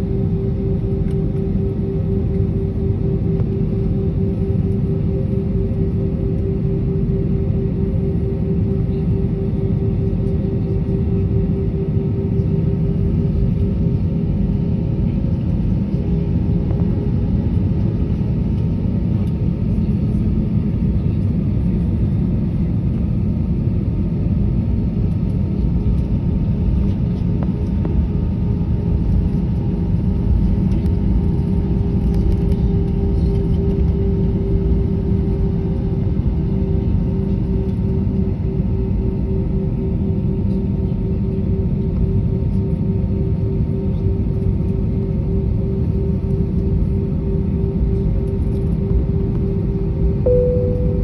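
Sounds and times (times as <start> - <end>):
constant hum: 0.0 - 51.0
jet engine rumble in cabin: 0.0 - 51.0.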